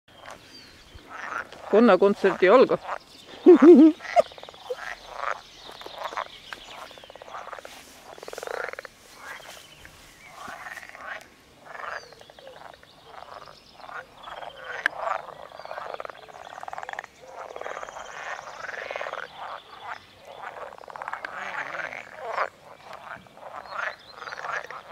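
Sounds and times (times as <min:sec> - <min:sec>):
frogs croaking: 0:00.1 - 0:09.6, 0:10.3 - 0:24.9.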